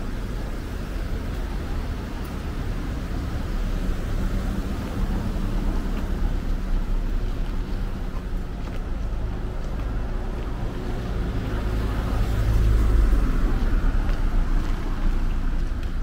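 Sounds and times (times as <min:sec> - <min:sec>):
car engines passing: 0:00.0 - 0:16.0.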